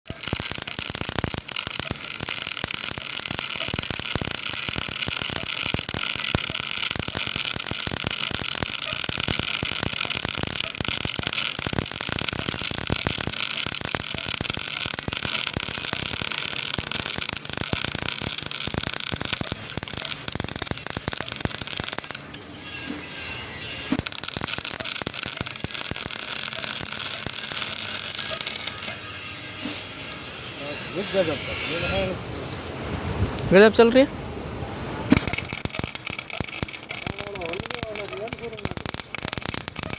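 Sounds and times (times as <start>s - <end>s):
welding arc crackling: 0.0s - 31.8s, 35.1s - 39.9s.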